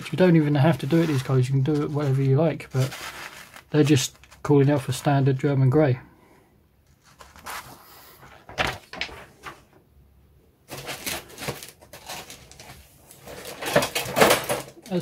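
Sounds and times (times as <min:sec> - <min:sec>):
paper rustling: 0:00.0 - 0:05.5, 0:06.8 - 0:09.8, 0:10.7 - 0:15.0.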